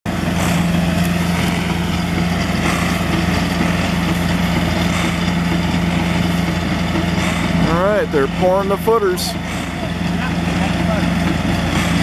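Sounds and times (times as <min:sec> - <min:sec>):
heavy diesel truck engine droning: 0:00.1 - 0:12.0.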